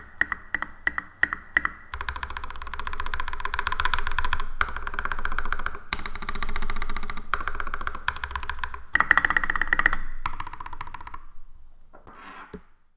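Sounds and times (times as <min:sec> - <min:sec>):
fast typing on mechanical keyboard: 0:00.0 - 0:11.2.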